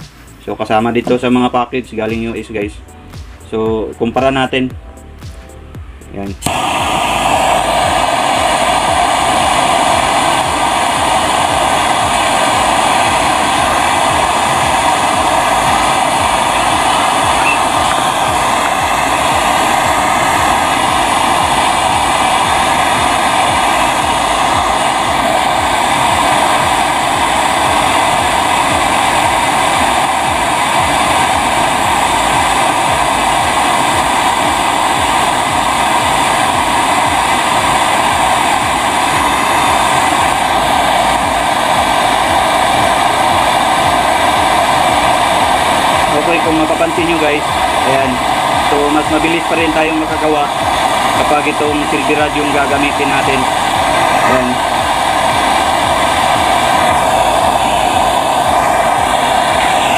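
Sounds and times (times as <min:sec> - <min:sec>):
gas torch flame burning: 0:00.0 - 0:02.8, 0:05.5 - 0:59.9.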